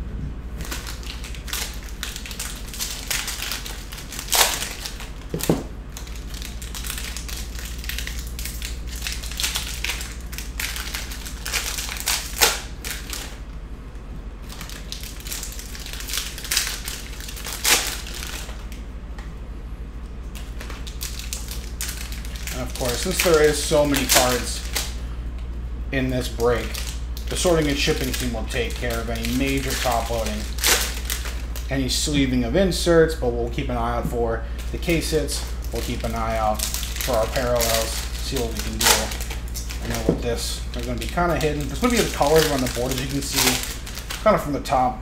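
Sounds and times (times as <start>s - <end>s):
low hum: 0.0s - 45.0s
foil wrappers crinkling and ripping: 0.6s - 13.5s, 14.4s - 18.8s, 20.3s - 25.0s, 26.1s - 44.7s.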